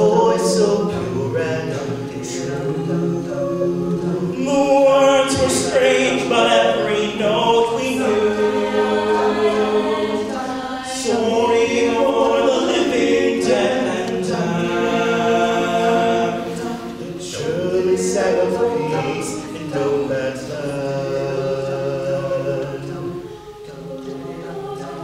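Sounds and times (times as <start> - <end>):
a cappella group singing chords: 0.0 - 25.0.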